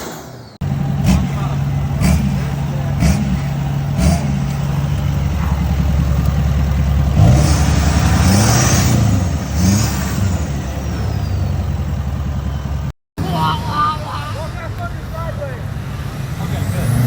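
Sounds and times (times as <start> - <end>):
diesel truck engine revving: 0.6 - 17.0.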